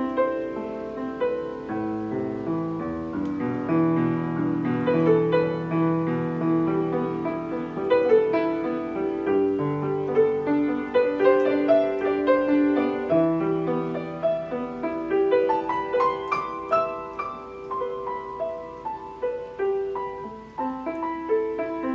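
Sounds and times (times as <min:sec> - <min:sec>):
piano melody: 0:00.0 - 0:21.9.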